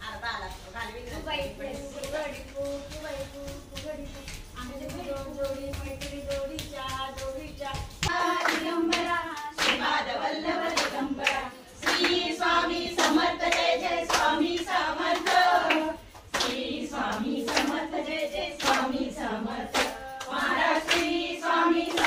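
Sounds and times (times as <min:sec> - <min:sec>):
hands clapping to a beat: 0:00.8 - 0:22.0
women singing in chorus: 0:01.4 - 0:22.0.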